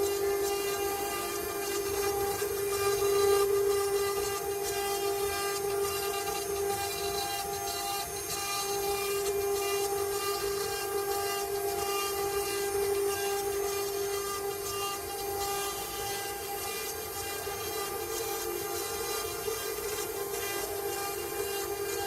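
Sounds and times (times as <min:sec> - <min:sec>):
router spindle whining: 0:00.0 - 0:22.0.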